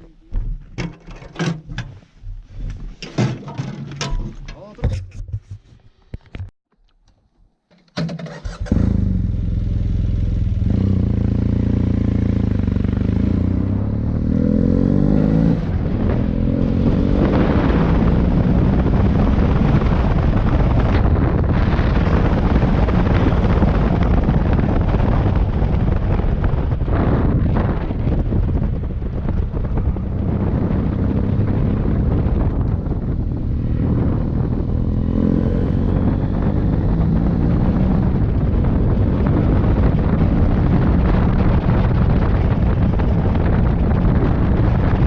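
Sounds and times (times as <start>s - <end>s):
motorcycle engine accelerating: 8.3s - 45.0s
rushing wind noise: 8.4s - 45.0s.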